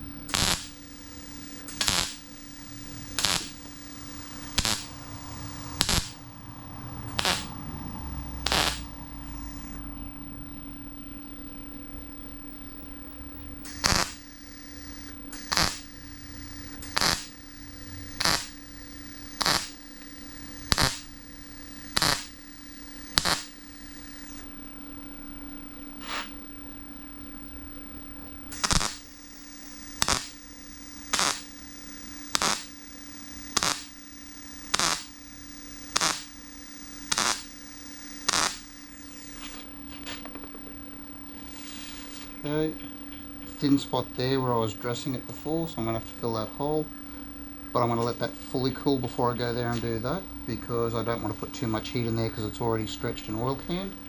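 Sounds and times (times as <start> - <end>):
welder tack welds crackling: 0.0 - 7.7, 8.4 - 9.0, 13.6 - 24.4, 26.0 - 26.4, 28.5 - 40.8, 41.4 - 46.9, 47.7 - 54.0
steady hum: 0.0 - 54.0.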